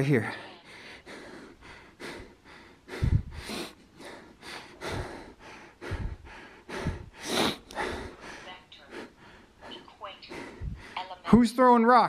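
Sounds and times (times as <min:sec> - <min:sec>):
man breathing heavily: 0:00.2 - 0:11.0.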